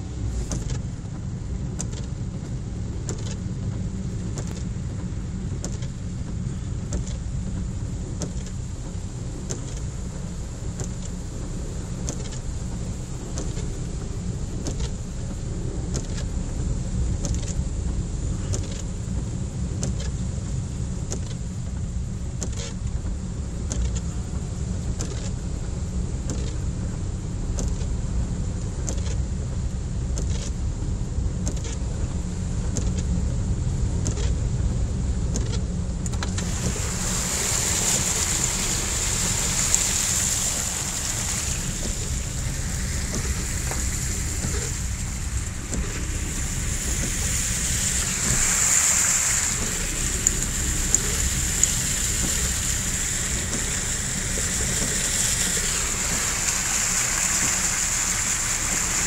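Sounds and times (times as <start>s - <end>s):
car cabin engine and tyre rumble: 0.0s - 59.0s
windscreen wipers running: 0.0s - 59.0s.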